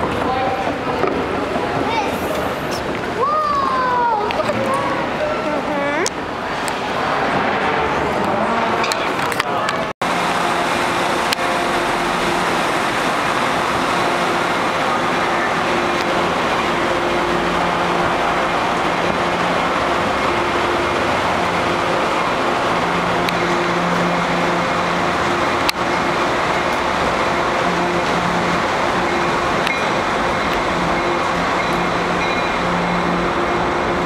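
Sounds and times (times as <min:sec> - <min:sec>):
train rumbling and hissing: 0:00.0 - 0:34.0.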